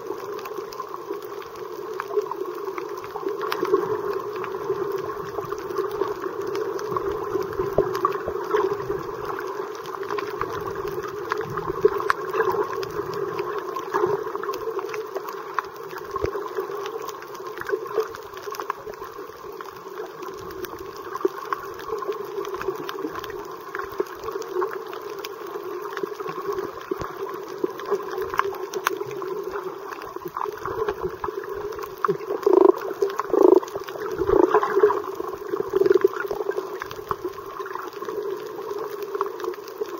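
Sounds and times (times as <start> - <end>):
faint clicks and crackles: 0.0 - 39.9
gurgling bubbles: 0.0 - 39.9.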